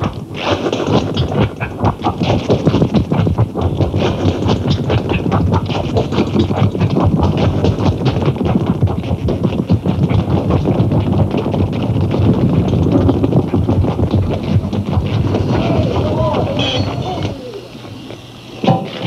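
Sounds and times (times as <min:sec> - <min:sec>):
tap dancing on metal floor: 0:00.0 - 0:18.0
music: 0:00.0 - 0:19.0.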